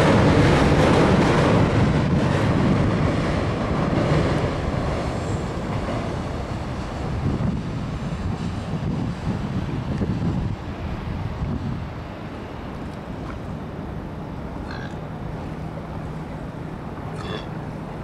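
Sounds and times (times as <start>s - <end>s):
train rumbling over bridge: 0.0s - 18.0s.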